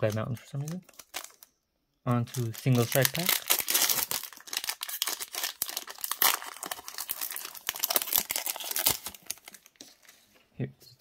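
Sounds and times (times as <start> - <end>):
foil wrapper crinkling and tearing: 0.0 - 1.5, 2.2 - 10.1.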